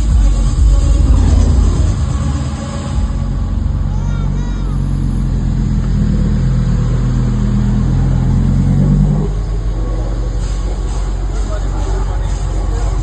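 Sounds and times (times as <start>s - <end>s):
car engine running under load: 0.0s - 13.0s.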